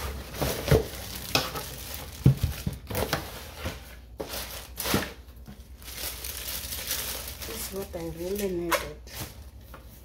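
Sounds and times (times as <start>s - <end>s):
plastic bag crinkling: 0.1s - 9.6s.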